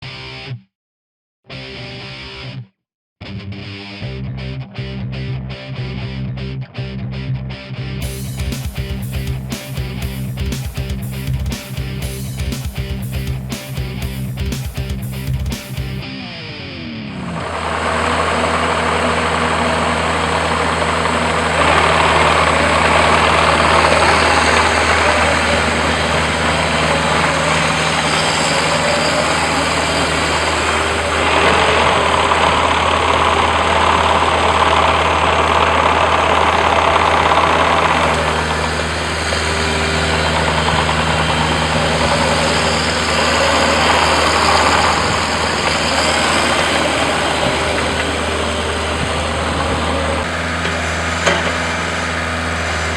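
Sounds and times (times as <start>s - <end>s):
mini excavator diesel engine: 8.0s - 16.0s, 17.3s - 52.9s.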